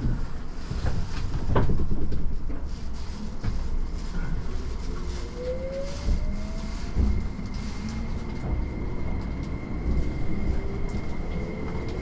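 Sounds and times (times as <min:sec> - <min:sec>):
train rumbling from inside: 0:00.0 - 0:12.0.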